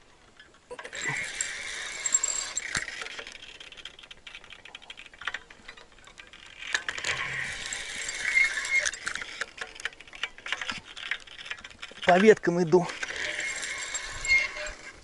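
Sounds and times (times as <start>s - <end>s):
rod and line handling clicks: 0.2s - 15.0s
fishing reel gears whirring: 0.8s - 15.0s.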